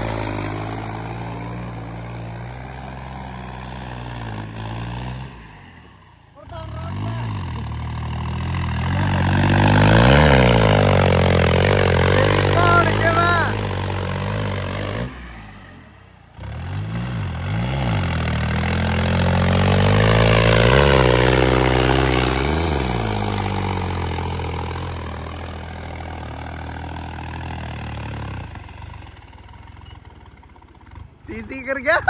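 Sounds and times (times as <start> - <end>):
tractor engine revving: 0.0 - 32.0.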